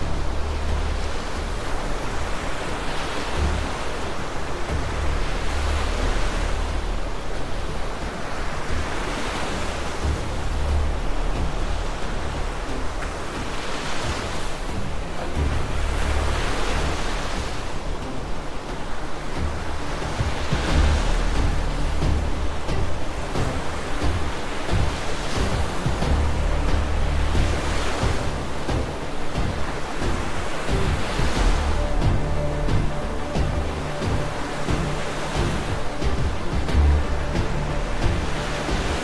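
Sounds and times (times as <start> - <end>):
deep continuous rumble: 0.0 - 39.0
rushing floodwater: 0.0 - 39.0
waves crashing: 0.0 - 39.0.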